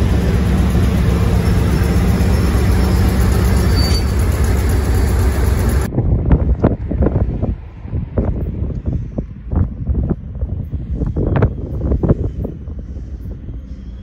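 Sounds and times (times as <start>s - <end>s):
diesel locomotive engine: 0.0s - 14.0s
wind buffeting microphone: 0.0s - 14.0s.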